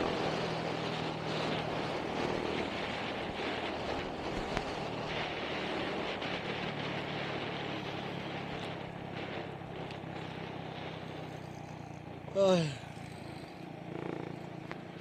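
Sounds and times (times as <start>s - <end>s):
wind noise on microphone: 0.0s - 12.4s
motorcycle engine cruising: 0.0s - 15.0s.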